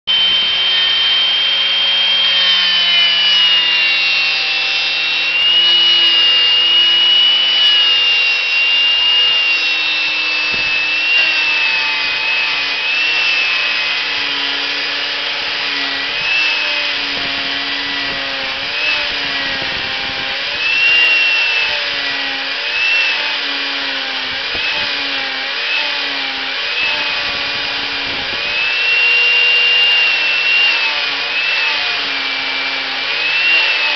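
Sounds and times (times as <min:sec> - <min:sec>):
router cutting into wood: 0:00.0 - 0:33.9.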